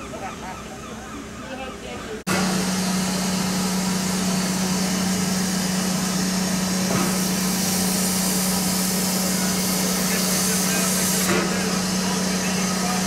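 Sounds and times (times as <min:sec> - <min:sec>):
steam locomotive hissing: 0:02.3 - 0:13.0.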